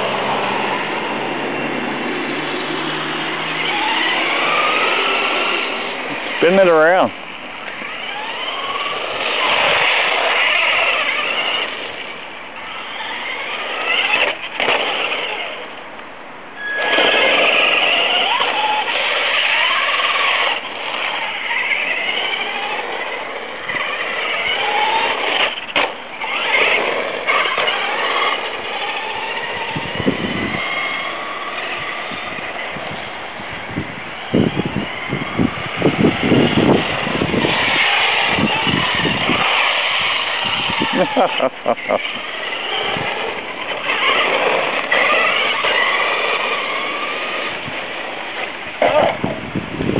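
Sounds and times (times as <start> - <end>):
rc truck motor whining: 0.0 - 49.9.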